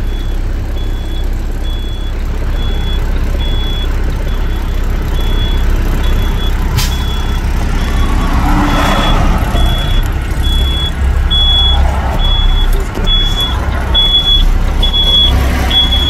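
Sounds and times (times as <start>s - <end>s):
truck engine idling: 0.0s - 16.0s
high electronic beeps: 0.9s - 16.0s.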